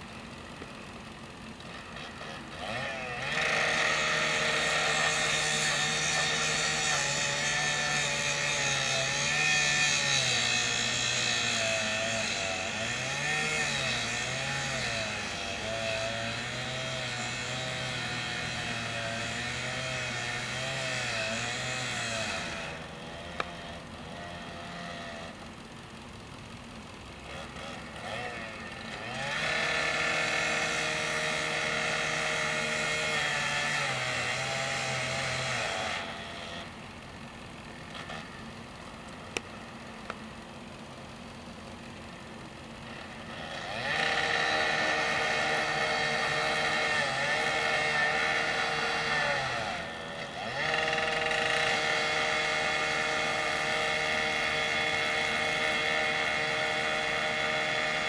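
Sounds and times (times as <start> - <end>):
power saw revving and idling: 0.0 - 58.0.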